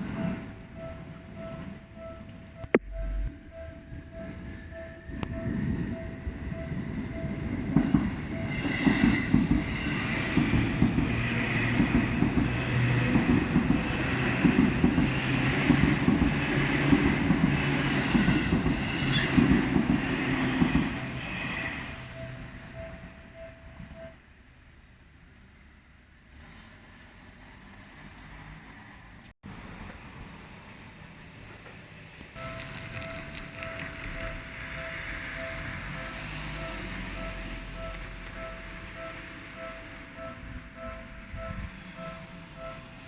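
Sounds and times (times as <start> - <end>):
level crossing warning bell: 0.0 - 24.2, 32.4 - 43.0
train wheels clacking: 0.0 - 24.2, 31.5 - 43.0.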